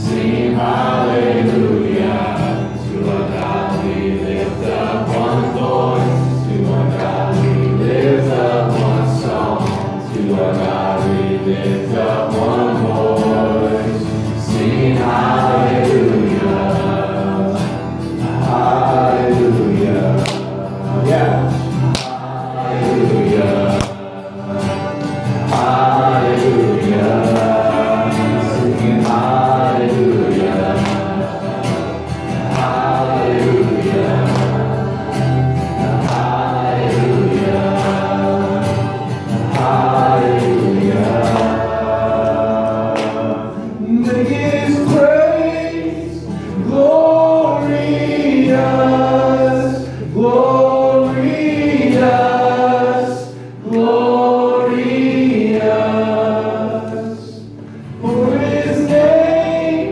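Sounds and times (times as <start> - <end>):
acoustic guitar: 0.0 - 59.9
keyboard: 0.0 - 59.9
voices singing worship song: 0.0 - 59.9.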